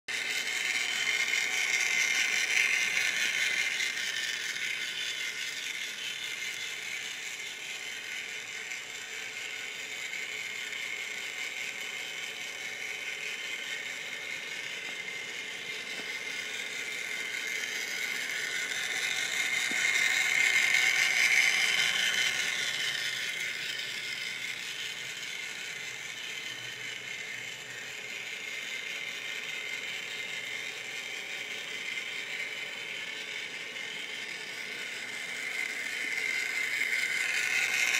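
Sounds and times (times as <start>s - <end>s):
toy train motor whirring: 0.1s - 37.9s.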